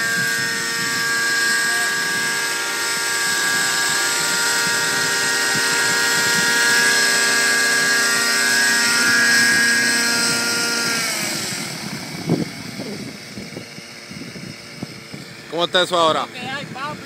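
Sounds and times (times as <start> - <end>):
rc helicopter engine whine: 0.0 - 17.0.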